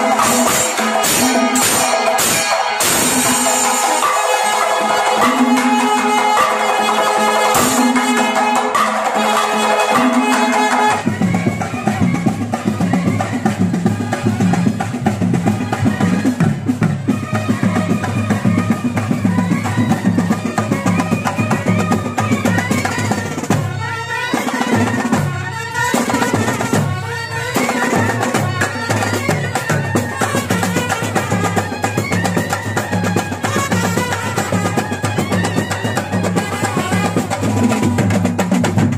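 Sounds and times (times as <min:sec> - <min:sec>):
fast drum rhythm: 0:00.0 - 0:38.9.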